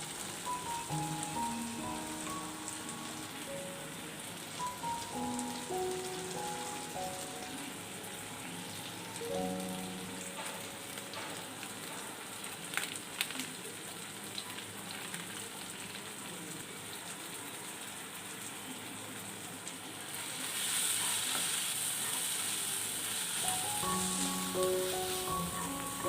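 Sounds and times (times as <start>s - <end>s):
food sizzling in oil: 0.0s - 18.8s, 19.8s - 26.0s.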